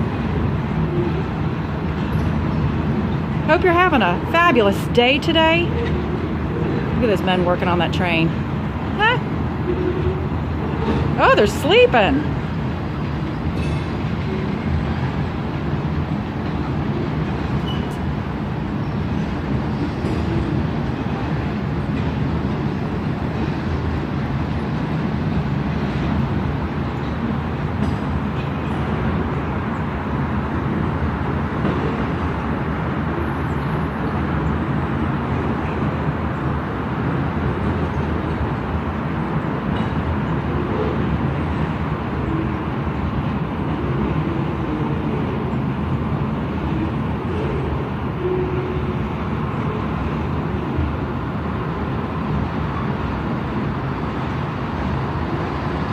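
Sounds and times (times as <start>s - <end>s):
freight train rumbling on rails: 0.0s - 55.9s.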